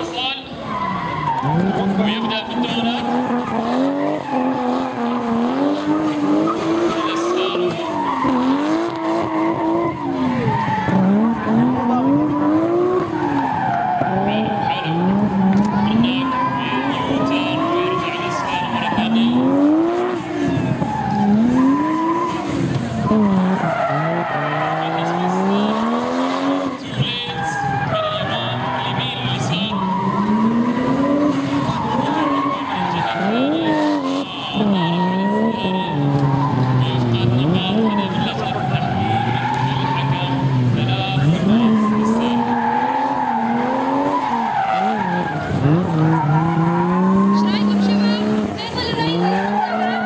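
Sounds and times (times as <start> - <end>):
car engine at high revs: 0.0 - 50.0
tyres screeching: 0.0 - 50.0.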